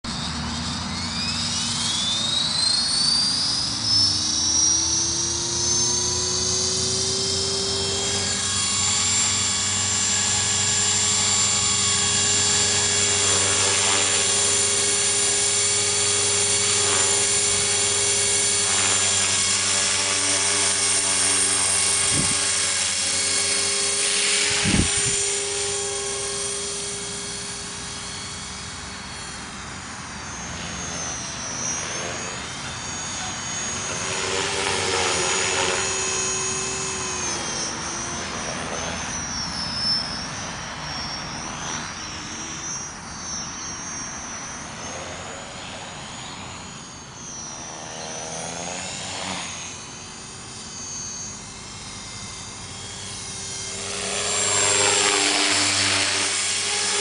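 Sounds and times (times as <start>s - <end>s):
rc helicopter motor whine: 0.0s - 57.0s.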